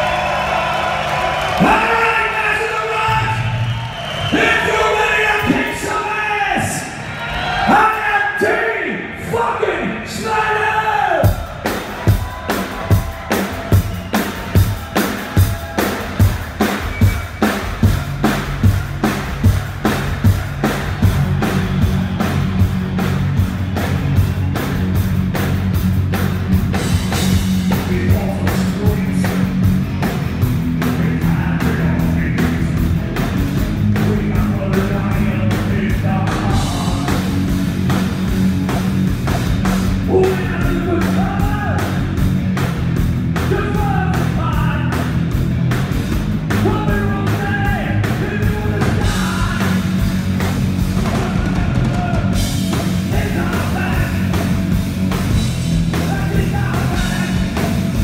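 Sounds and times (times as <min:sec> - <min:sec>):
live heavy rock band: 0:00.0 - 0:08.0, 0:10.1 - 0:58.0
drum beat: 0:11.2 - 0:58.0.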